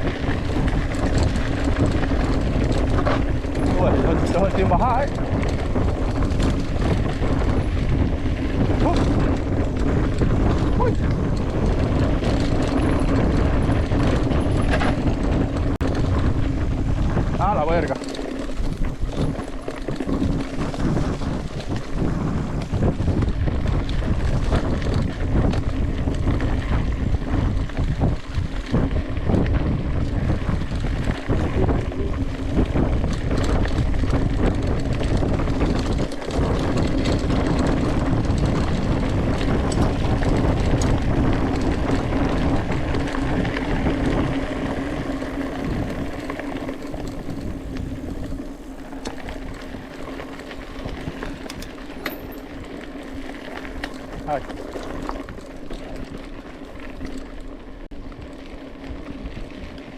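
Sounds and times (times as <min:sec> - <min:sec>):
bike rattling over ground: 0:00.0 - 0:59.9
wind rushing over microphone: 0:00.0 - 0:59.9.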